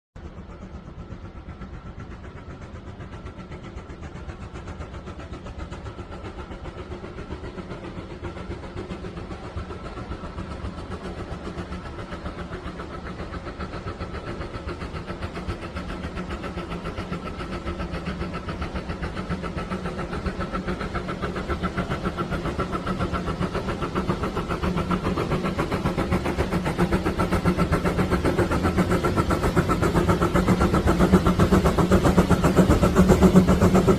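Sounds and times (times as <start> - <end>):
steam locomotive chuffing: 0.2 - 33.9.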